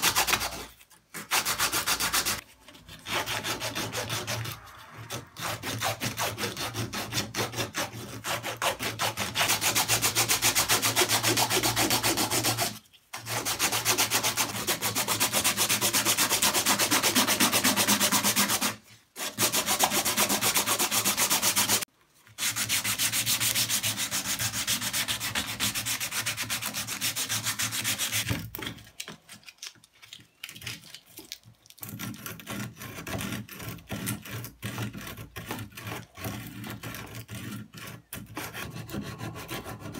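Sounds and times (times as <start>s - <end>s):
sandpaper rasping: 0.0s - 28.4s, 31.8s - 39.9s.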